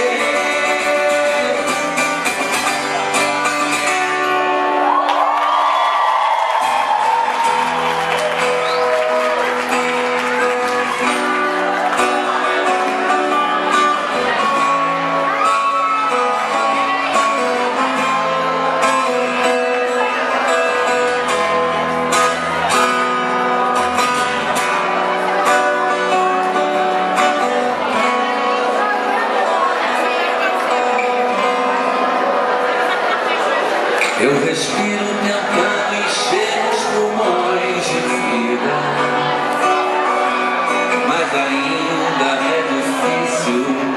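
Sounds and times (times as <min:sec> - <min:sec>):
electric guitar: 0:00.0 - 0:43.9
pop-rock band playing: 0:00.0 - 0:43.9.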